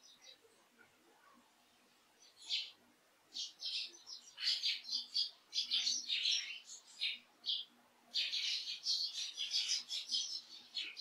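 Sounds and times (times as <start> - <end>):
sparrows chirping: 0.0 - 1.0, 1.6 - 11.0.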